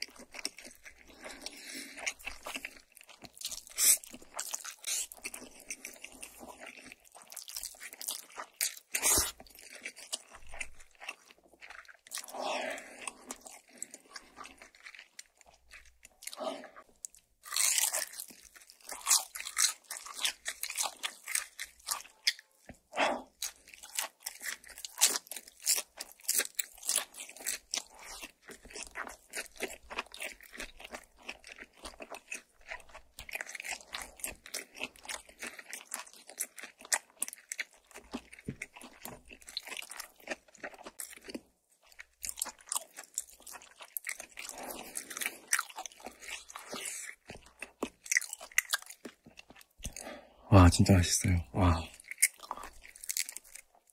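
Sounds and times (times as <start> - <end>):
crunchy chewing: 0.0 - 50.3, 51.7 - 53.9.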